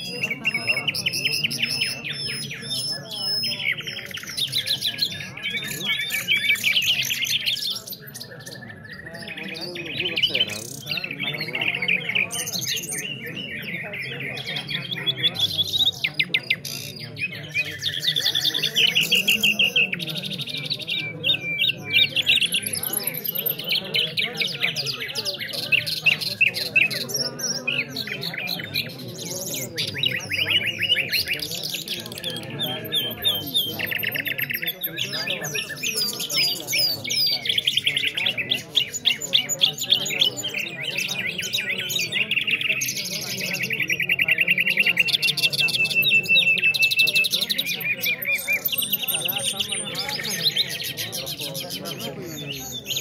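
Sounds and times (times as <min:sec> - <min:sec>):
murmur of men's voices: 0:00.0 - 0:53.0
nightingales singing: 0:00.0 - 0:53.0
songbirds chirping: 0:00.0 - 0:53.0.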